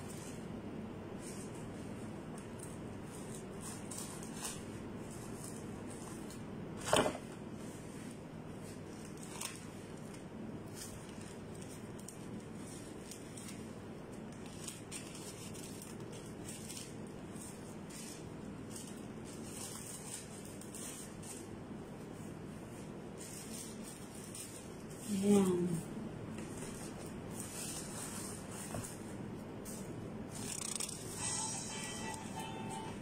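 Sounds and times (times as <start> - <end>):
paper and plastic wrappers crinkling: 1.2 - 22.0, 22.7 - 25.8, 26.4 - 33.0.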